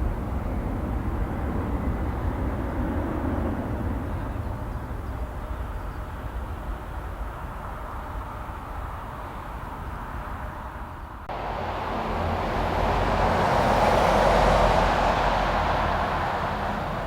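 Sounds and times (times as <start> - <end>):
jet airliner engine roar: 0.0 - 9.4, 11.3 - 17.0.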